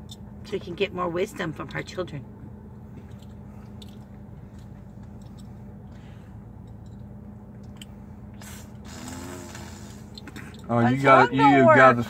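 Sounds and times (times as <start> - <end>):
idling car hum inside cabin: 0.0 - 12.0.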